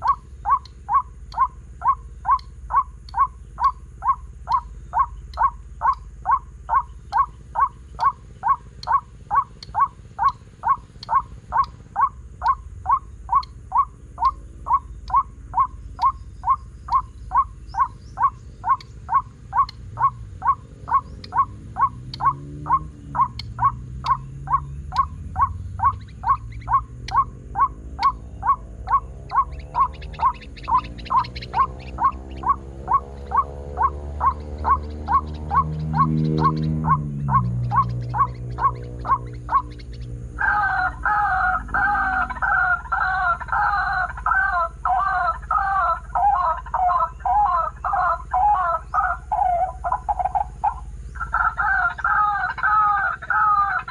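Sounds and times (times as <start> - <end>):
low droning sound: 0.0 - 43.5
bird call through speaker: 0.0 - 53.9.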